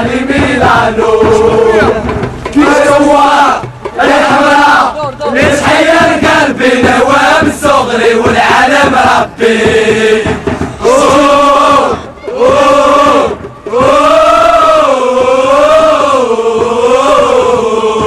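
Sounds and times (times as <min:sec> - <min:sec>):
crowd of men chanting: 0:00.0 - 0:18.0.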